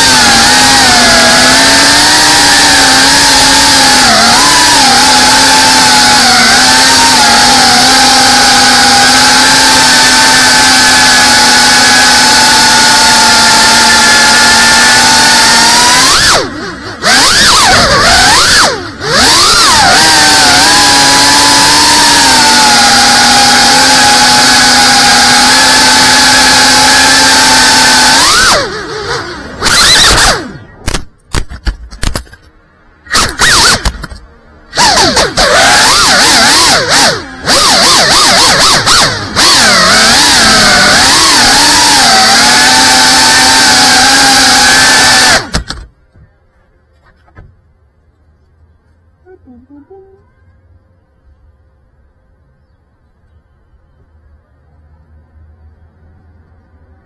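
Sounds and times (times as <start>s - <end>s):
drone motors whining: 0.0s - 32.4s, 33.0s - 47.4s.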